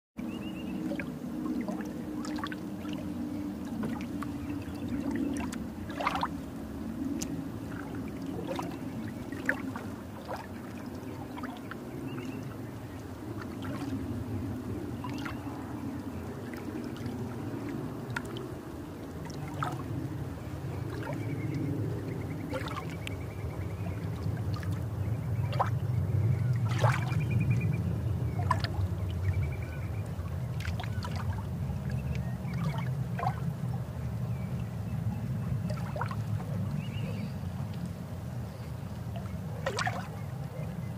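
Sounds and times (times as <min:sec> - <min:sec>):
dog paddling underwater churning: 0:00.3 - 0:40.9.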